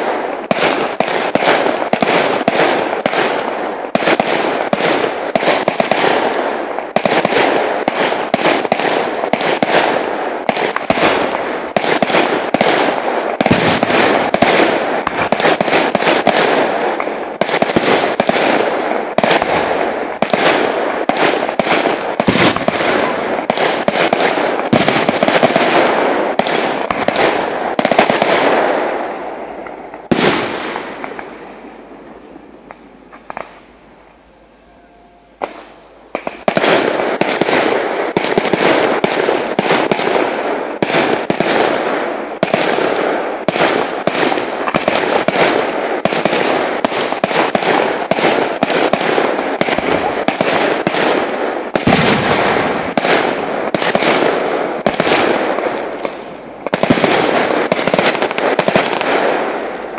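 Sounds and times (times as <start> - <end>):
fireworks bangs and crackling: 0.0 - 34.3, 35.4 - 59.9.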